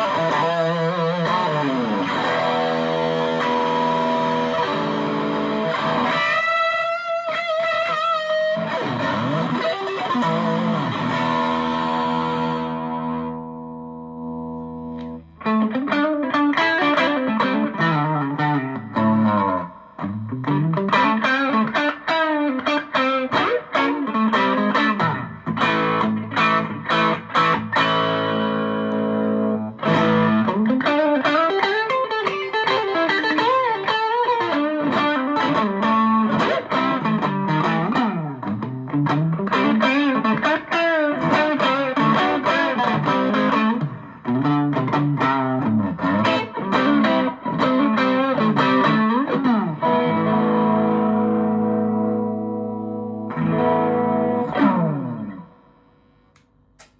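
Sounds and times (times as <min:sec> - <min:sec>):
distorted electric guitar: 0:00.0 - 0:56.9.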